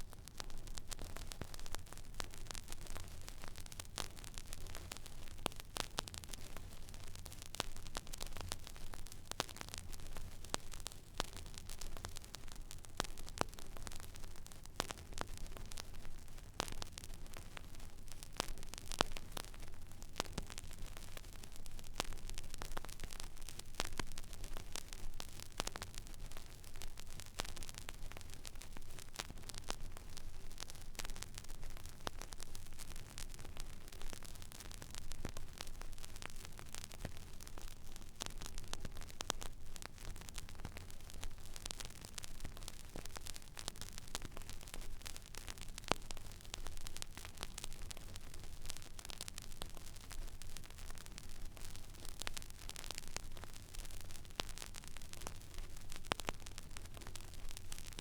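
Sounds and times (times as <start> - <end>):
vinyl surface hiss and crackles: 0.0 - 58.0.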